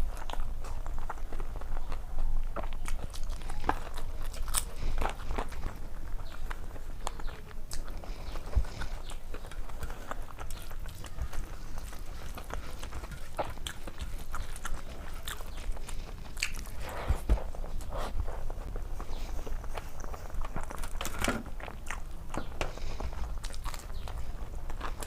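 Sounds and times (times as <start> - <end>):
crunchy bites: 0.0 - 25.0
person chewing food: 0.0 - 25.0.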